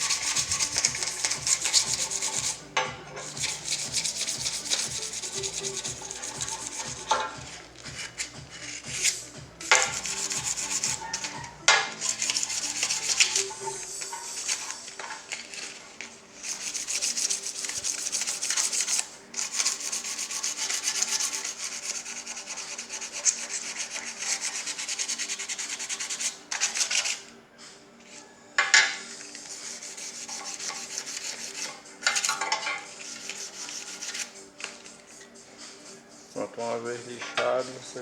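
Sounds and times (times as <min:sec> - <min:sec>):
sandpaper rubbing on metal: 0:00.0 - 0:27.3, 0:29.3 - 0:34.9.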